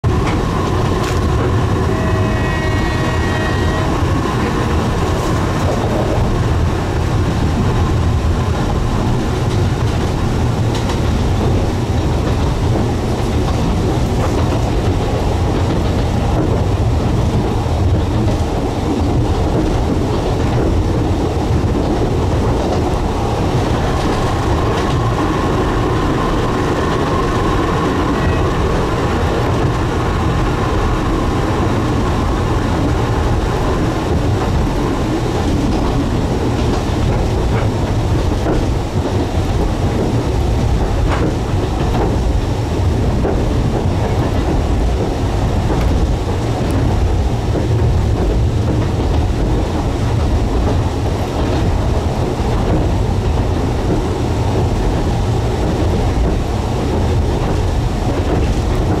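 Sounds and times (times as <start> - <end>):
train car rumbling and rattling: 0.0 - 59.0.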